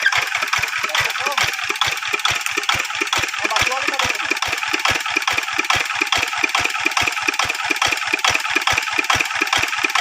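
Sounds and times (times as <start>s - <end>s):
hand tractor engine running: 0.0s - 10.0s.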